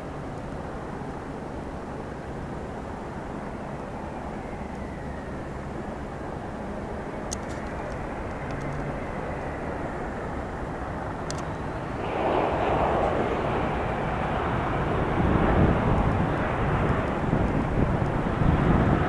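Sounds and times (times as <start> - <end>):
jet engine rushing with whine: 0.0 - 19.0.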